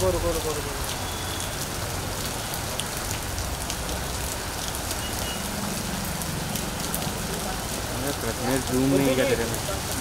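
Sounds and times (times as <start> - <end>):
heavy rain on pavement: 0.0 - 10.0
raindrops ticking: 0.0 - 10.0.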